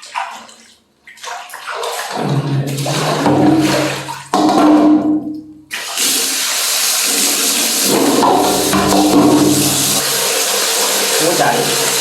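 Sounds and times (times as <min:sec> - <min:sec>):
water running and splashing: 0:00.0 - 0:04.8, 0:05.7 - 0:12.0.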